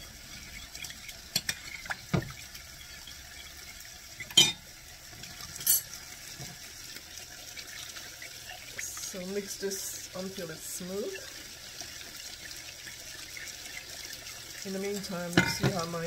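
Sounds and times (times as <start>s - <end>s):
faint sizzling in a pan: 0.0s - 16.0s.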